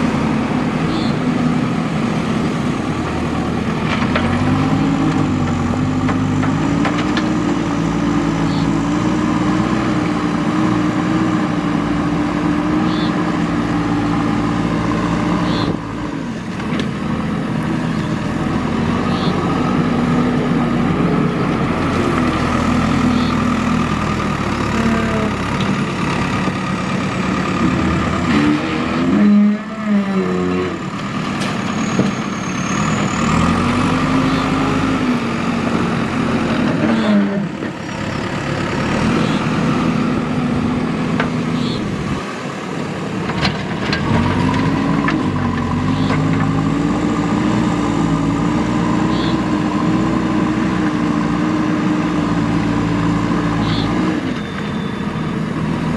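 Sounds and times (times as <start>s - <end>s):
backhoe diesel engine working: 0.0s - 55.9s.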